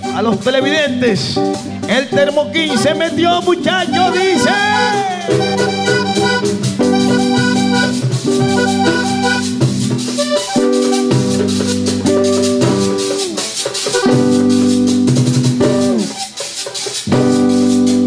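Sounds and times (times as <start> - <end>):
accordion chords: 0.0 - 18.0
guitar: 0.0 - 18.0
drum: 0.1 - 18.0.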